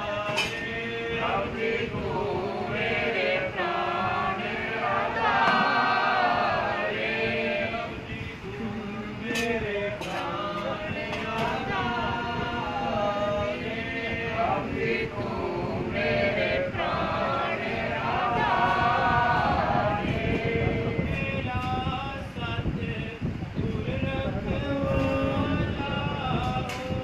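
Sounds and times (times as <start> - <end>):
men chanting together: 0.0 - 21.7.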